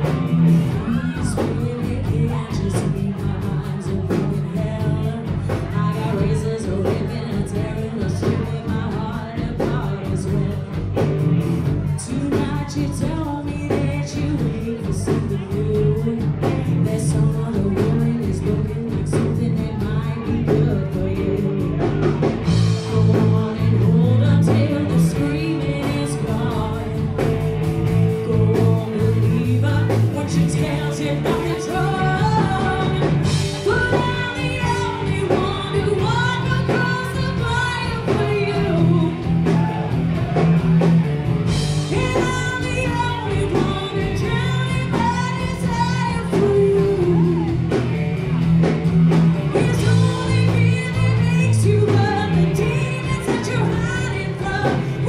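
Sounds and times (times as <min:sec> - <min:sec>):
woman singing: 0:00.0 - 0:40.4, 0:41.4 - 0:48.4, 0:49.1 - 0:55.0
drum kit: 0:00.0 - 0:55.0
electric bass: 0:00.0 - 0:55.0
electric guitar: 0:00.0 - 0:55.0.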